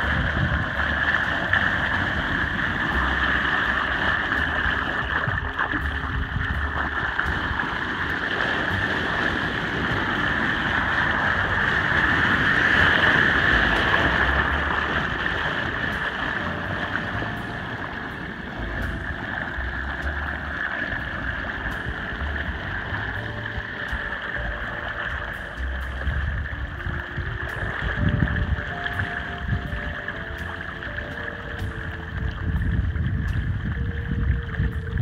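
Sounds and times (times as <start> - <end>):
rain on a flooded street: 0.0 - 35.0
water gurgling down a drain: 0.0 - 35.0
wind on microphone: 0.0 - 35.0.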